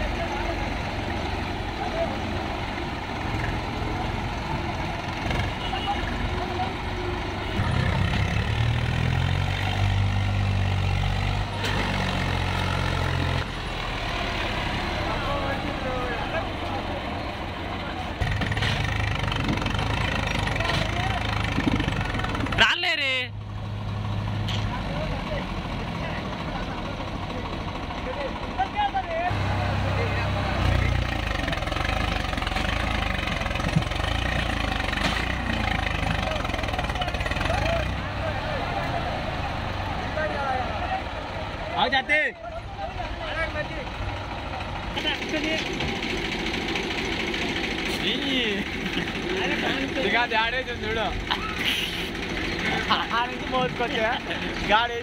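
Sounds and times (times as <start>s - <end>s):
tractor diesel engine straining: 0.0s - 55.0s.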